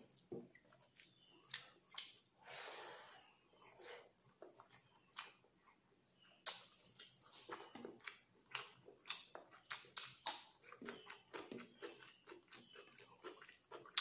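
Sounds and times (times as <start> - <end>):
wet chewing and lip smacks: 0.1 - 2.3, 4.2 - 14.0.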